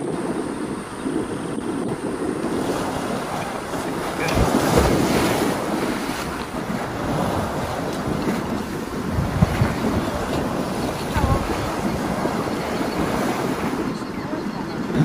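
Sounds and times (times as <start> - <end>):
river water flowing: 0.0 - 15.0
wind buffeting microphone: 0.0 - 15.0.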